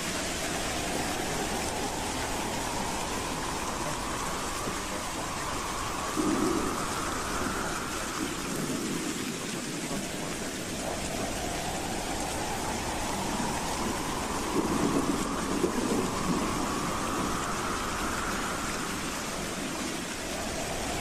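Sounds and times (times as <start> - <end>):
howling wind: 0.0 - 21.0.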